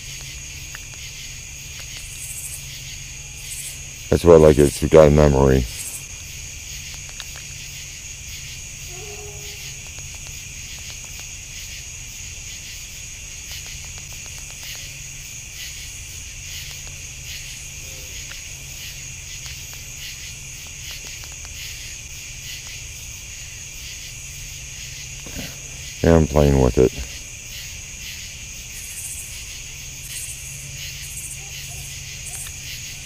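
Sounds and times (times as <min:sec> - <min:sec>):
crickets trilling: 0:00.0 - 0:33.0
steady low hum: 0:00.0 - 0:33.0.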